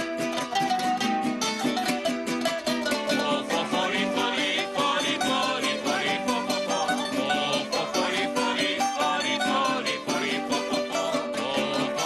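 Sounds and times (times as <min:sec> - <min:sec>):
plucked string folk music: 0:00.0 - 0:12.0.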